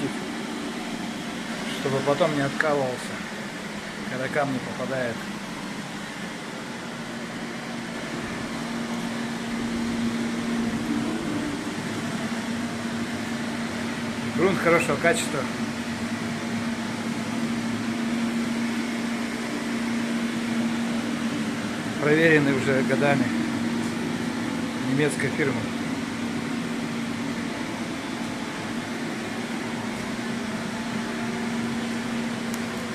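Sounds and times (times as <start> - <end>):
machine fan-like rush: 0.0 - 32.9
steady low hum: 0.0 - 32.9.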